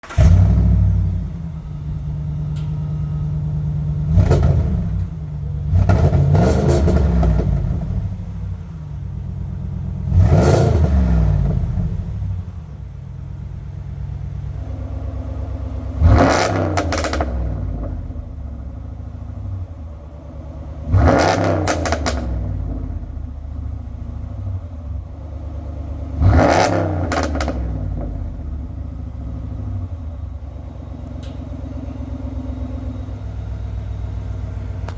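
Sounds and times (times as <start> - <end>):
exhaust cracks: 0.0 - 9.1, 9.9 - 14.8, 15.9 - 25.0, 26.2 - 32.4
engine idling and revving: 0.0 - 34.9.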